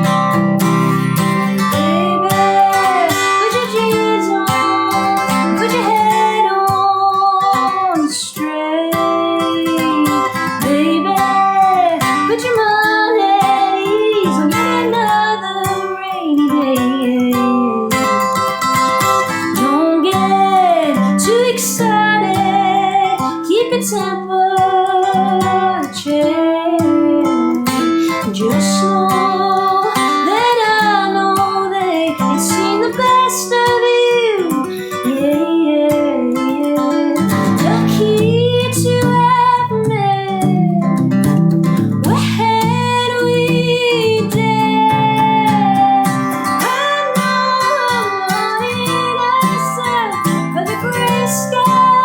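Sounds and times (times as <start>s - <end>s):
acoustic guitar strumming: 0.0s - 52.0s
woman singing: 0.0s - 52.0s.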